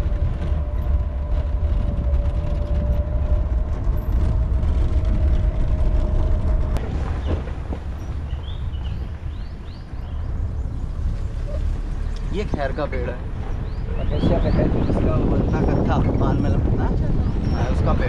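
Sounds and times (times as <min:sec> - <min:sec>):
constant whine: 0:00.0 - 0:18.0
vehicle engine and road rumble: 0:00.0 - 0:18.0.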